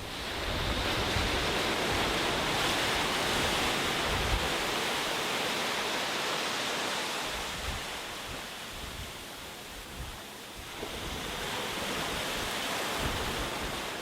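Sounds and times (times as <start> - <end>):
wind rumble on microphone: 0.0 - 5.1, 7.2 - 14.0
sea waves breaking on a beach: 0.0 - 14.0.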